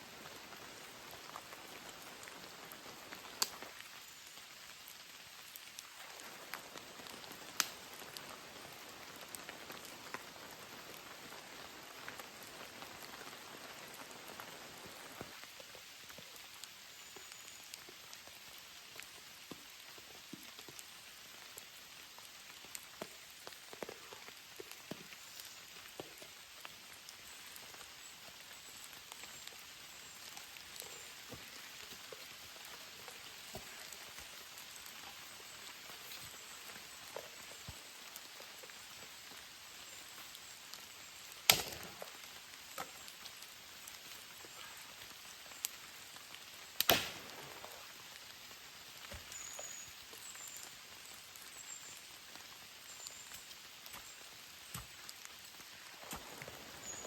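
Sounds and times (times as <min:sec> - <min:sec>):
raindrops ticking close by: 0:00.0 - 0:57.0
steady rain hiss: 0:00.0 - 0:57.0.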